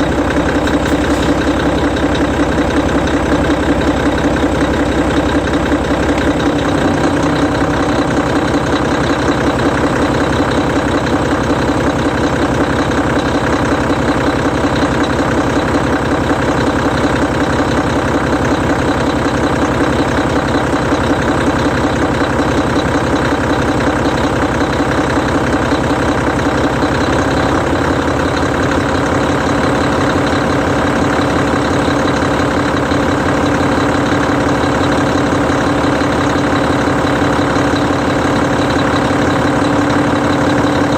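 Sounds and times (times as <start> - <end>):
diesel bus engine idling: 0.0 - 40.9.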